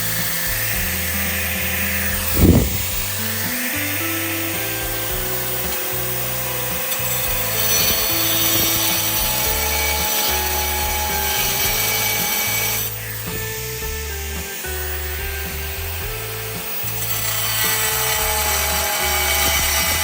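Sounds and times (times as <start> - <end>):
background music: 0.0 - 20.0
power tool running: 0.0 - 20.0.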